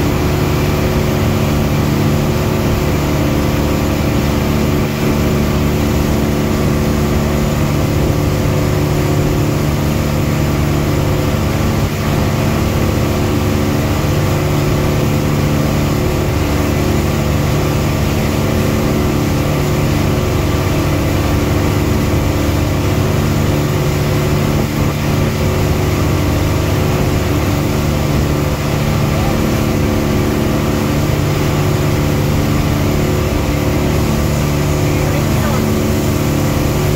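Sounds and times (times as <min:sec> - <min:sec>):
boat engine running: 0:00.0 - 0:36.9
constant rushing noise: 0:00.0 - 0:36.9.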